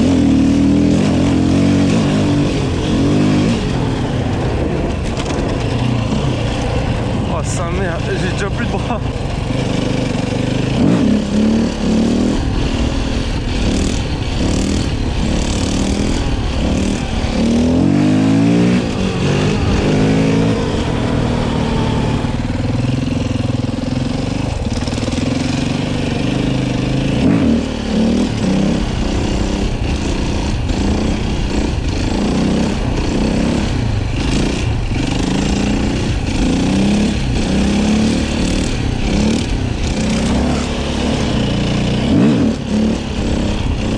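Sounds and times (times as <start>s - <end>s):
motorbike engine revving: 0.0s - 43.9s.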